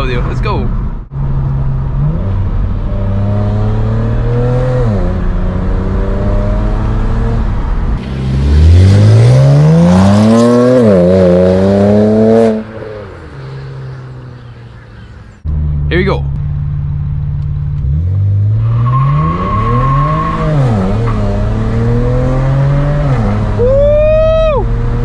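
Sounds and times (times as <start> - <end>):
car engine accelerating: 0.8 - 25.0.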